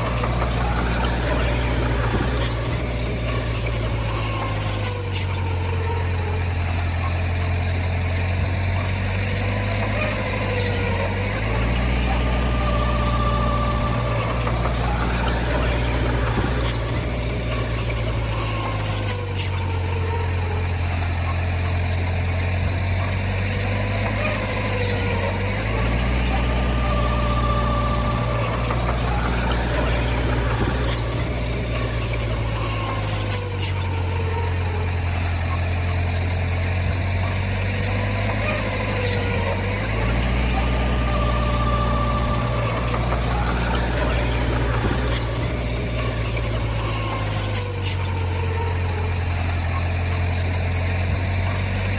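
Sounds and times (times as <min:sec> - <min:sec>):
bulldozer diesel engine: 0:00.0 - 0:51.9
short metallic clicks: 0:00.0 - 0:51.9.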